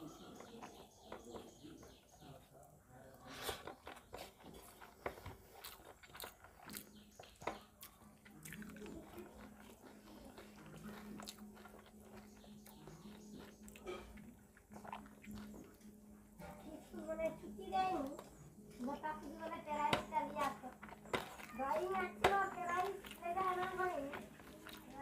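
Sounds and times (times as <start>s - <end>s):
chewing with wet clicks: 3.5s - 16.6s, 18.0s - 25.0s.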